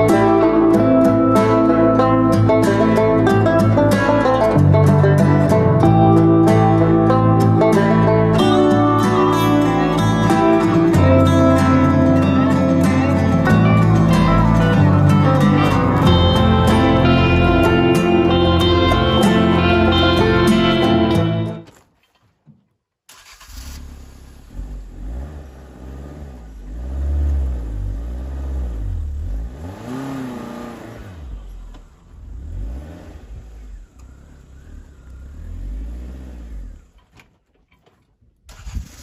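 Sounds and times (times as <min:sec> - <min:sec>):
van engine revving: 0:00.0 - 0:21.6, 0:23.1 - 0:37.2.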